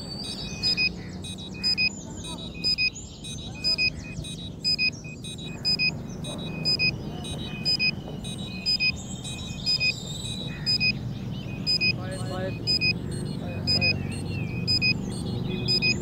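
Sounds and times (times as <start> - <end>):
high double beeps: 0.0 - 16.0
low outdoor rumble: 0.0 - 16.0.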